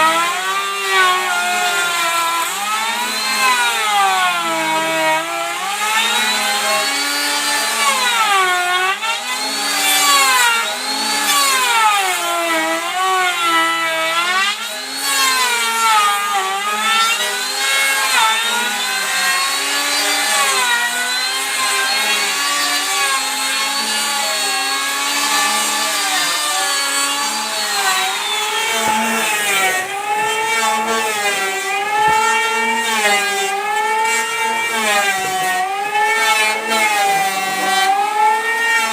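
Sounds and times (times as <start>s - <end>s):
power tool motor cutting wood: 0.0s - 38.9s.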